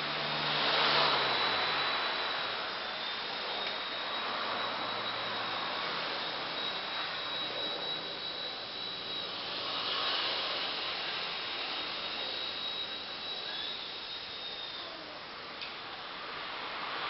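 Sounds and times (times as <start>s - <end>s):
rotor blades rushing: 0.0s - 17.0s
toy helicopter motor whine: 0.0s - 17.0s.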